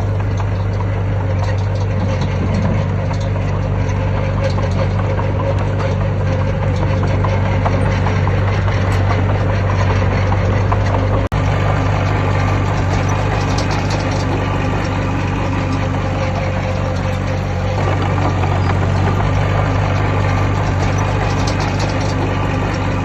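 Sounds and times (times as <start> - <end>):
heavy diesel engine droning: 0.0 - 23.0.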